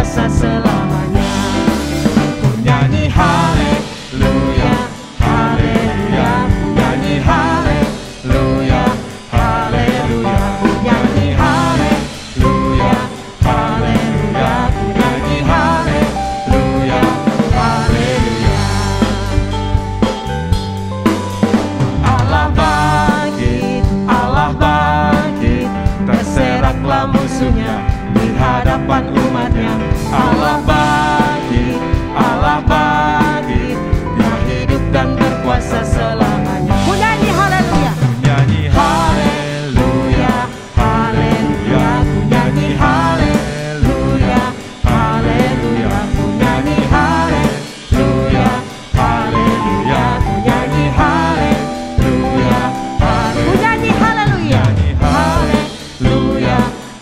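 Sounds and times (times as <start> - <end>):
man and woman singing: 0.0 - 20.8, 21.8 - 57.0
worship band playing: 0.0 - 57.0.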